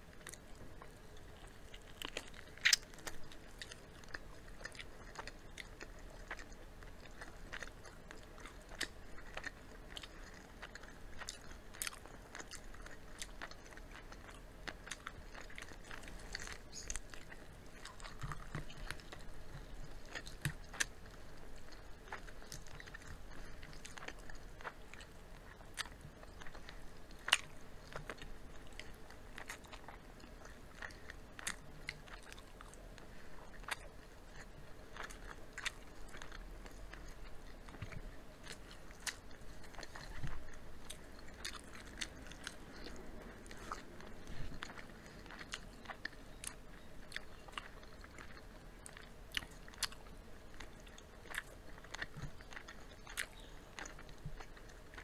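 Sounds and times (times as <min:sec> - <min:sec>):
people crunching fried chicken: 0:00.0 - 0:55.0.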